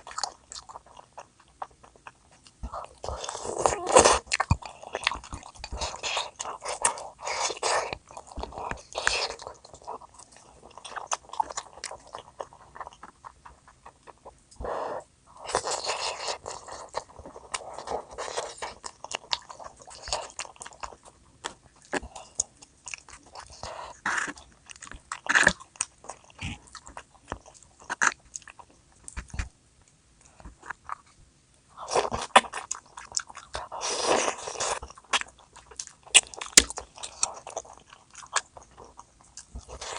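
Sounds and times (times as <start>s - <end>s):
person chewing crunchy food: 0.0s - 29.6s, 30.2s - 39.9s.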